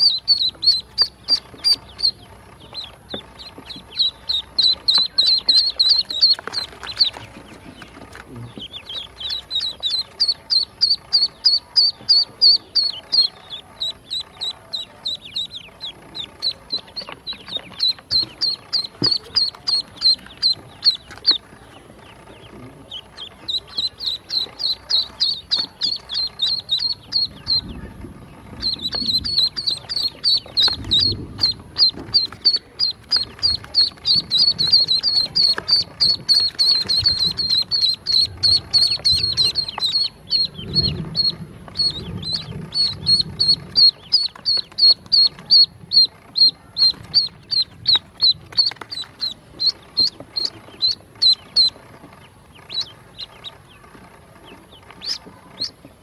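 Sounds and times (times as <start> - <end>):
ducklings peeping: 0.0 - 56.0.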